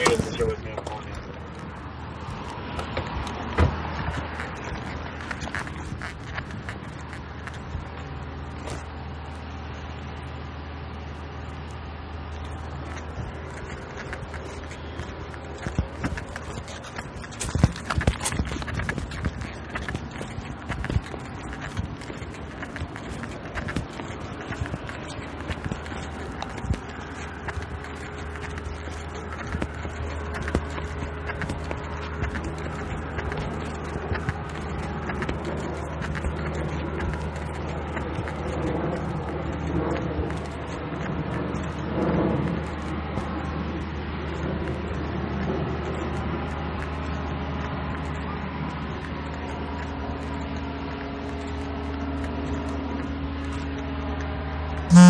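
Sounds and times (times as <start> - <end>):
clothing and gear rattling: 0.0 - 9.9, 11.1 - 54.7
distant traffic hum: 0.0 - 55.0
footsteps on concrete: 0.0 - 55.0.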